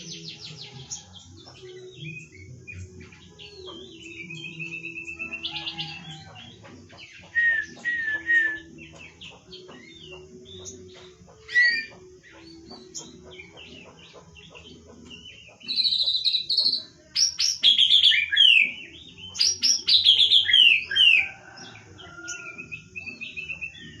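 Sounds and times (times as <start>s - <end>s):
songbird whistles and trills: 0.0s - 24.0s.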